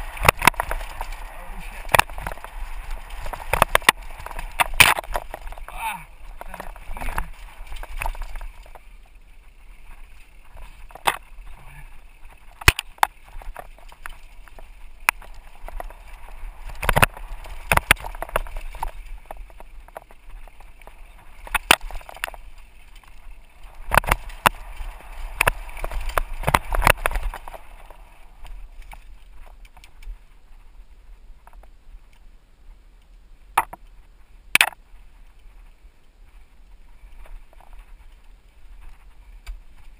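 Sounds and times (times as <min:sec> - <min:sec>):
bike rattling over bumps: 0:00.0 - 0:32.1, 0:33.4 - 0:39.9
bike tyres rolling over dirt: 0:00.0 - 0:39.9
wind on camera: 0:00.0 - 0:39.9.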